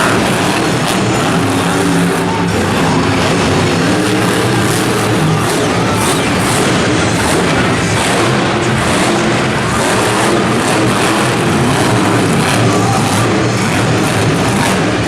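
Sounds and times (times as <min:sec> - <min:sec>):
arena crowd noise: 0:00.0 - 0:15.0
monster truck engine running: 0:00.0 - 0:15.0.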